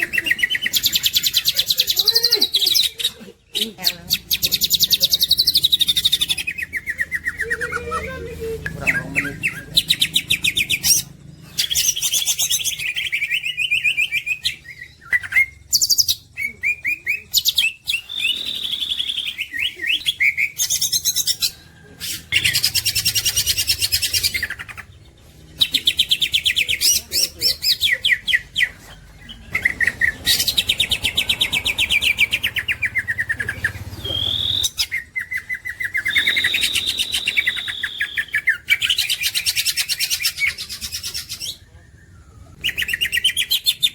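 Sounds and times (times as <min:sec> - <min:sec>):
bird singing trills and whistles: 0:00.0 - 0:43.9.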